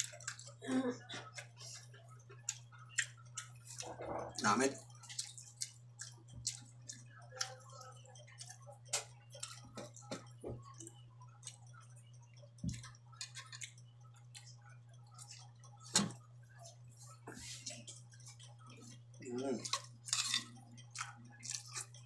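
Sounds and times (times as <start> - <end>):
person chewing crunchy food: 0.0 - 22.0
steady low hum: 0.0 - 22.0.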